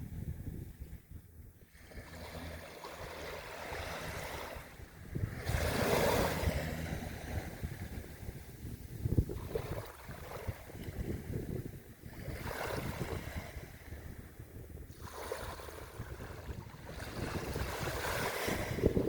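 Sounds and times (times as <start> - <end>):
wind buffeting microphone: 0.0 - 19.0
small waves washing on beach: 1.6 - 19.0.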